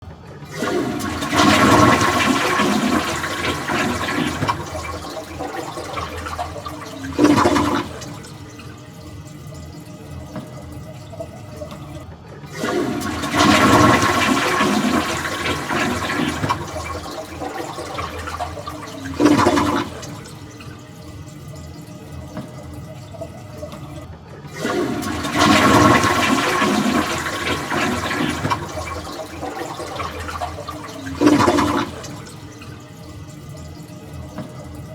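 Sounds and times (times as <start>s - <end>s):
toilet flushing: 0.0s - 34.9s.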